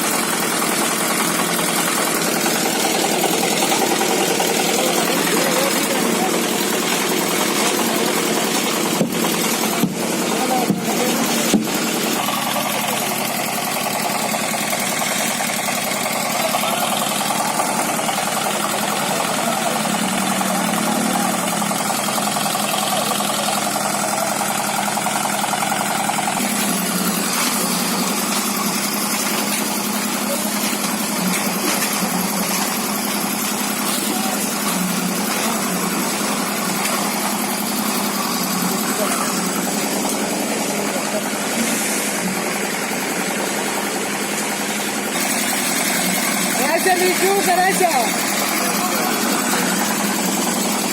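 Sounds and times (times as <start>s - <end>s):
concrete machinery engine running: 0.0s - 50.9s
voices: 0.8s - 50.9s.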